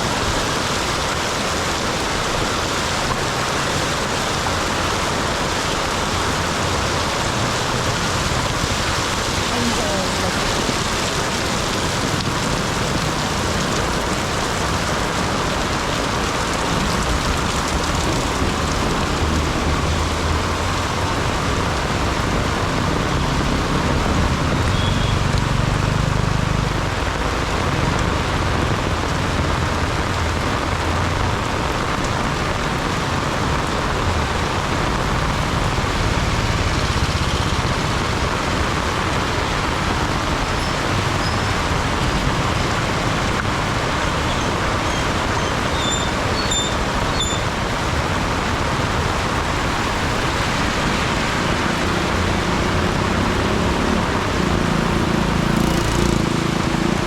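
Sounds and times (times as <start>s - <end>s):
heavy rain pouring: 0.0s - 57.0s
passing road traffic: 0.0s - 57.0s.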